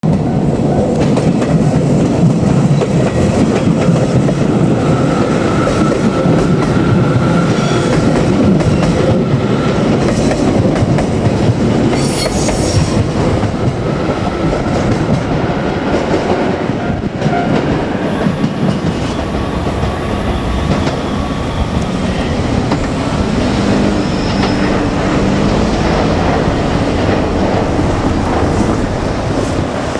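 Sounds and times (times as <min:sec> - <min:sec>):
train wheels rolling on rails: 0:00.1 - 0:29.9.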